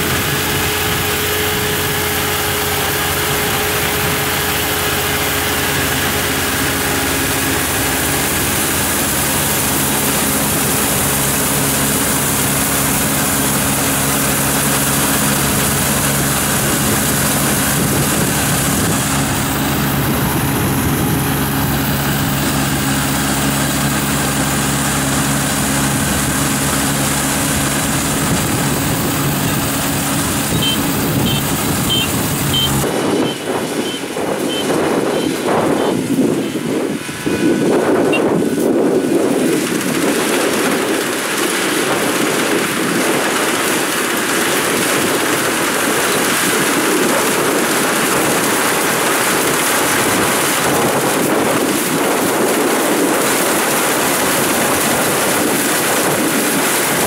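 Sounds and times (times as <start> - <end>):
wind buffeting microphone: 0.0 - 24.0, 24.6 - 57.0
combine harvester running: 0.0 - 57.0.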